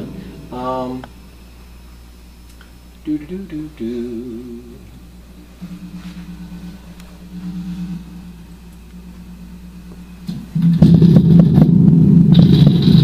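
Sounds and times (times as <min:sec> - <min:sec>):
low wavering pulsing buzz: 0:00.0 - 0:13.0.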